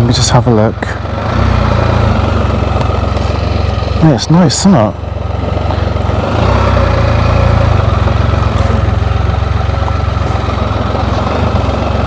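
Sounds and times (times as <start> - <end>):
motorcycle engine throbbing: 0.0 - 12.0.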